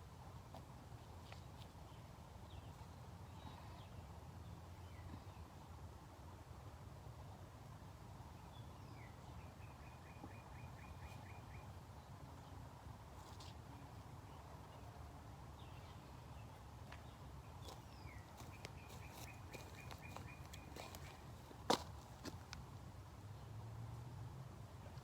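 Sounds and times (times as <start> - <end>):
faint outdoor background noise: 0.0 - 25.0
songbird singing: 1.0 - 5.8, 8.2 - 23.6.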